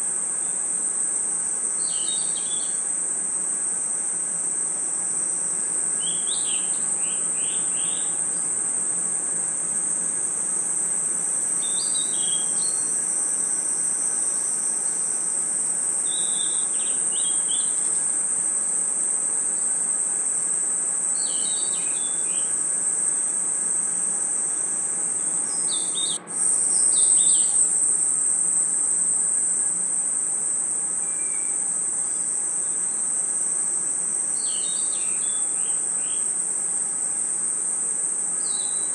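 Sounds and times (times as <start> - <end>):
crickets trilling: 0.0 - 38.9
insect chirps: 0.0 - 38.9.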